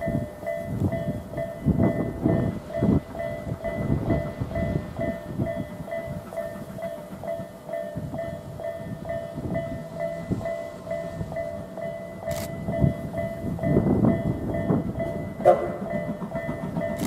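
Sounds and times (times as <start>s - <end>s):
level-crossing warning bell ringing: 0.0s - 17.0s.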